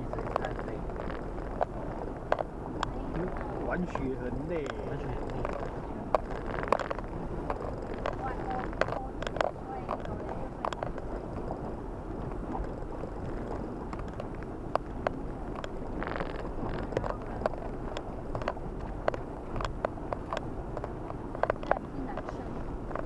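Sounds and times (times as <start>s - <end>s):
sharp clicks and knocks: 0.0s - 3.4s, 4.0s - 11.5s, 12.6s - 23.0s
car engine and tyres rumbling: 0.0s - 23.0s.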